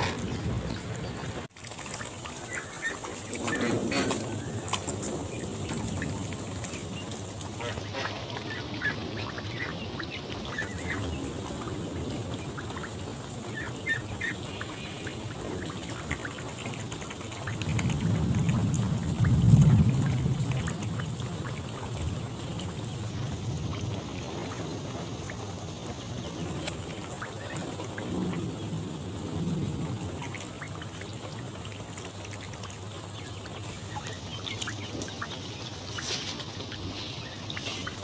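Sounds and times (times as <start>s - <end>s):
low rumble of thunder: 0.0s - 1.5s, 2.2s - 38.0s
steady rain: 0.0s - 38.0s.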